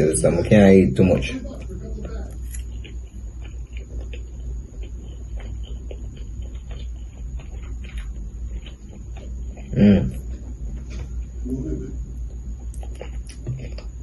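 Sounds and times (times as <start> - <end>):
low hum: 0.0 - 14.0
soft chewing: 1.0 - 14.0.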